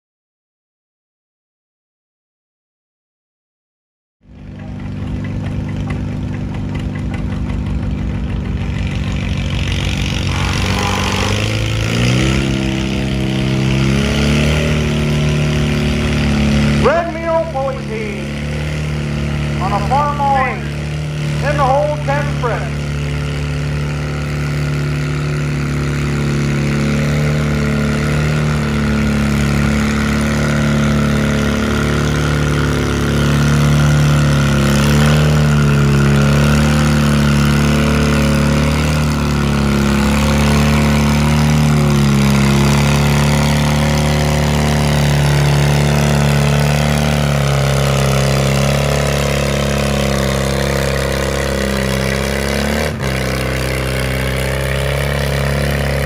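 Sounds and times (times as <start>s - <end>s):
tractor engine running under load: 4.2s - 56.0s.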